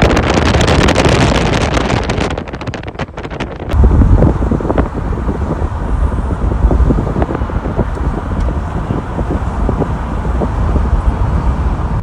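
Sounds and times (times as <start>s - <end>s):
gusty wind buffeting microphone: 0.0s - 12.0s
steady low rumble: 2.3s - 12.0s.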